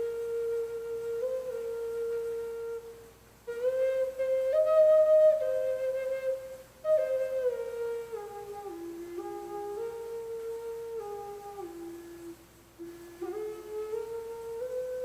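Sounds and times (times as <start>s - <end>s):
flute playing slow melody: 0.0s - 15.0s.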